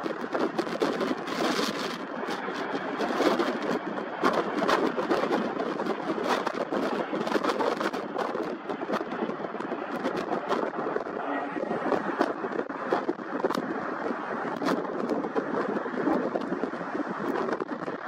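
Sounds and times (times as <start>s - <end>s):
jet engine rush: 0.0s - 18.0s
wind buffeting microphone: 0.0s - 18.0s.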